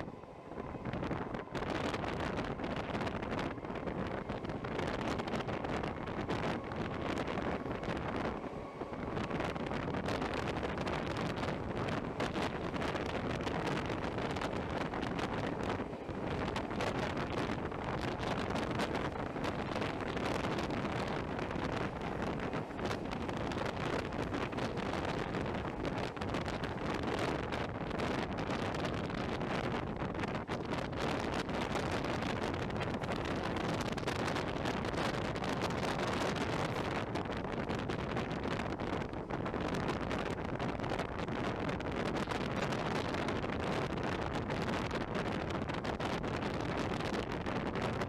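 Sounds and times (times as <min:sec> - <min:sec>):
train running on rails: 0:00.0 - 0:48.0
wind buffeting microphone: 0:00.0 - 0:48.0.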